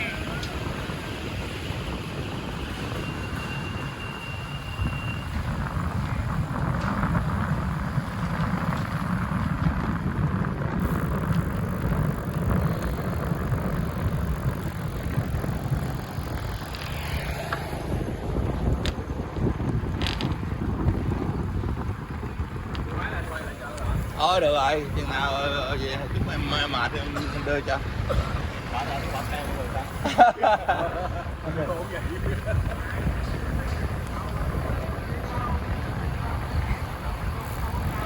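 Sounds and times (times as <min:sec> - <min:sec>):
bicycle rattling: 0:00.0 - 0:38.0
road noise: 0:00.0 - 0:38.0
wind on microphone: 0:00.0 - 0:38.0.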